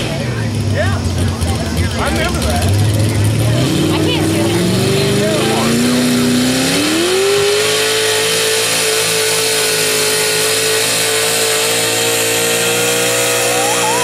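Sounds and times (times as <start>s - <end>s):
pickup truck engine under load: 0.0s - 14.0s.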